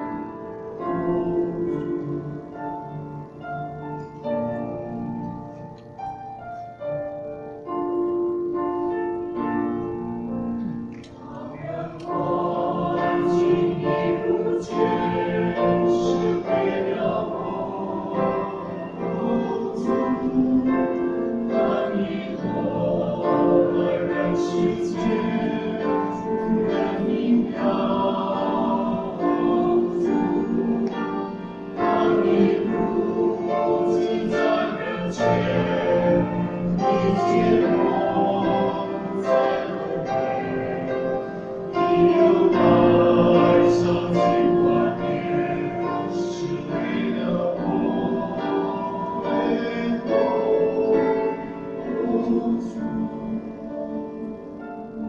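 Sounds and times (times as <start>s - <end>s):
church choir singing a hymn: 0.0s - 5.9s, 6.8s - 55.0s.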